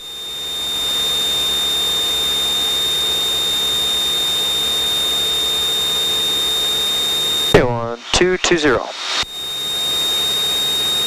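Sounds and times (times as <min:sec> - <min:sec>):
high-pitched electronic whine: 0:00.0 - 0:11.0.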